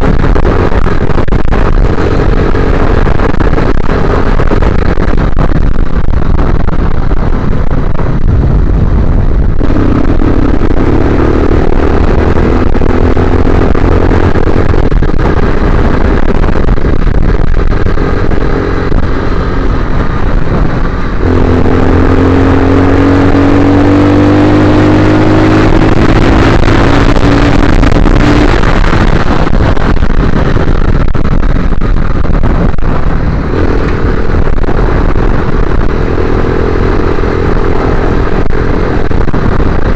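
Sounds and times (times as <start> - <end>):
heavy wind noise: 0.0 - 39.9
motorcycle engine running: 0.0 - 39.9.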